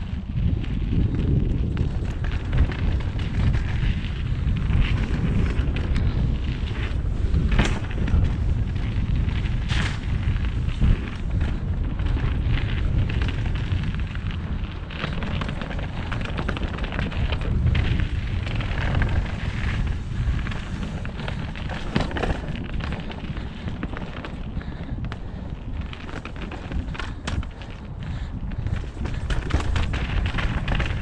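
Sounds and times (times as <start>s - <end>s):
bike clicks and rattles: 0.0s - 31.0s
wind rush and tyre rumble: 0.0s - 31.0s.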